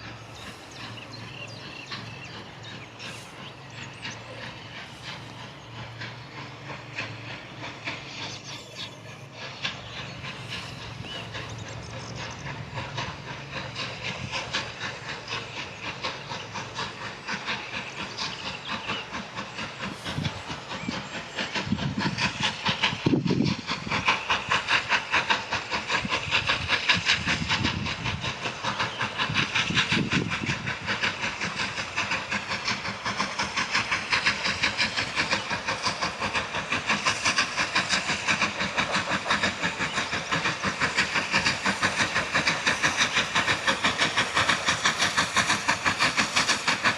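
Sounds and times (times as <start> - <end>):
steam locomotive chugging: 0.0 - 46.9.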